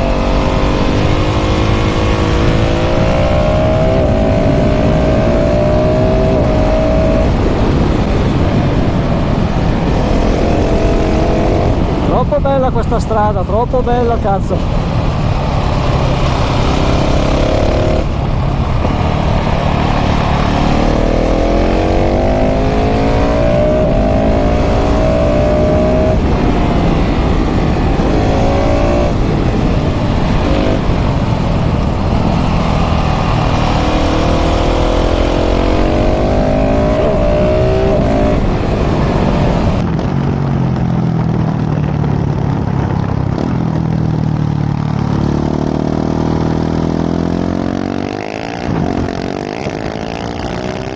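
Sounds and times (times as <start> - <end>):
motorcycle engine revving: 0.0 - 50.9
wind rush: 0.0 - 50.9.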